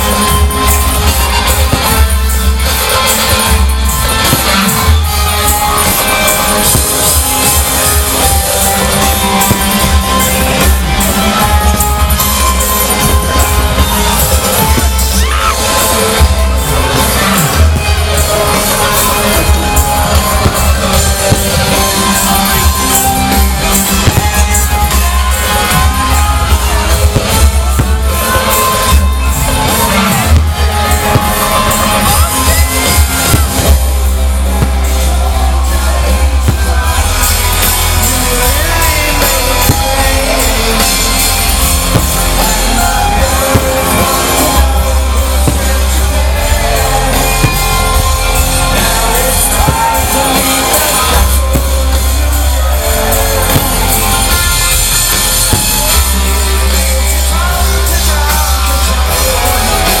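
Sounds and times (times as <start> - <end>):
audience shouting: 0.0 - 60.0
live rock band playing: 0.0 - 60.0
person singing: 0.0 - 60.0.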